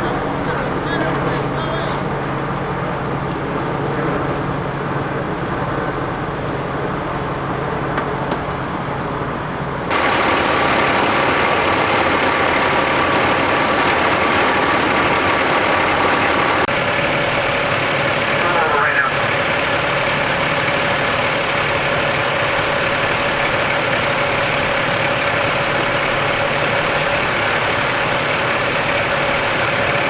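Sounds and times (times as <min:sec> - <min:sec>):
fire engine diesel engines running: 0:00.0 - 0:30.0.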